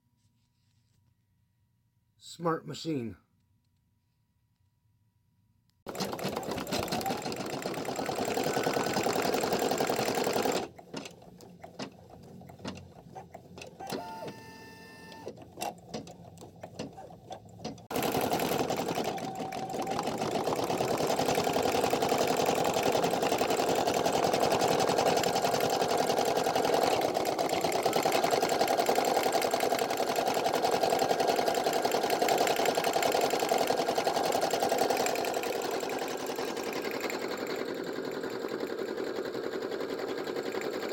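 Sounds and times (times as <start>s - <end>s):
embroidery machine stitching: 5.9s - 40.9s.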